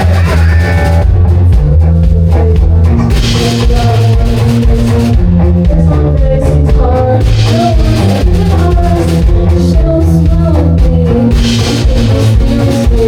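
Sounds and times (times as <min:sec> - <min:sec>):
bass guitar: 0:00.0 - 0:13.0
distorted electric guitar: 0:00.0 - 0:13.0
drum kit: 0:00.0 - 0:13.0.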